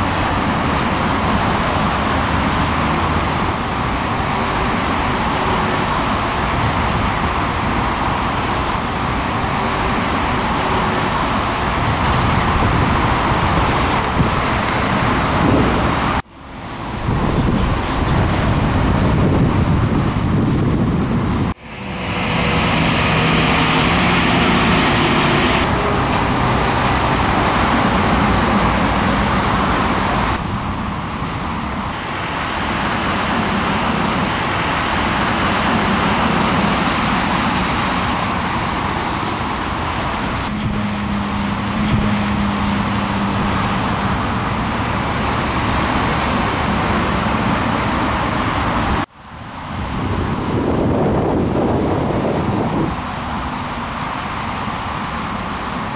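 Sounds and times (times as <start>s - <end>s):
lorry engine drone: 0.0s - 55.9s
traffic tyre noise: 0.0s - 55.9s.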